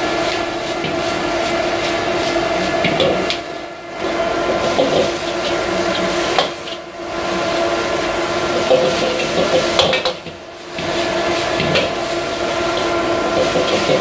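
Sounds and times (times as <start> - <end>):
food sizzling in wok: 0.0 - 14.0
gas burner rushing: 0.0 - 14.0.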